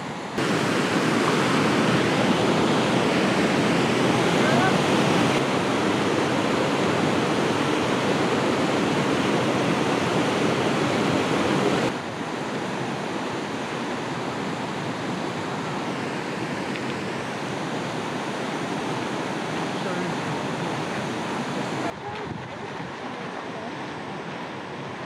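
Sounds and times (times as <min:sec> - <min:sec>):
waterfall roar: 0:00.0 - 0:25.0.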